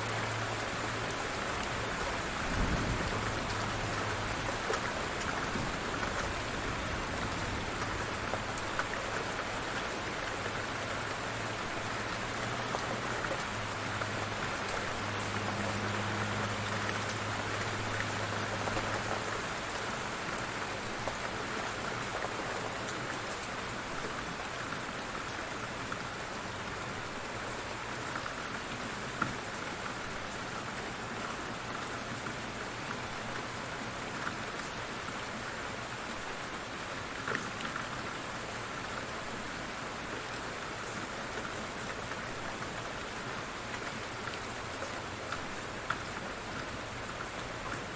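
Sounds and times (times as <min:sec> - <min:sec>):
light rain pattering: 0:00.0 - 0:47.9.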